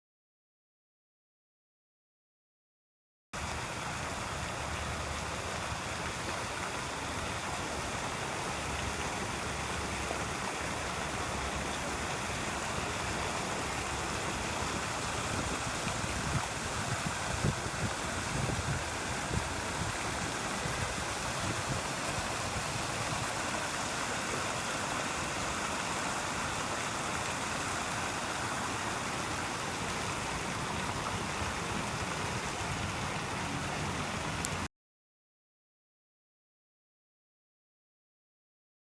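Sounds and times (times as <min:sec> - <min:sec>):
fountain water splashing: 0:03.4 - 0:34.7.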